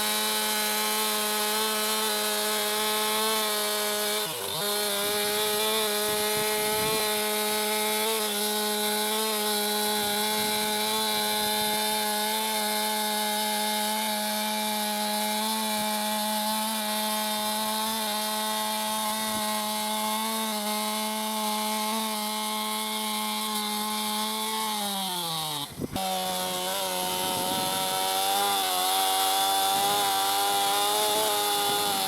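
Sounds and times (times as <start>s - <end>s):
chainsaw cutting a log: 0.0s - 32.0s.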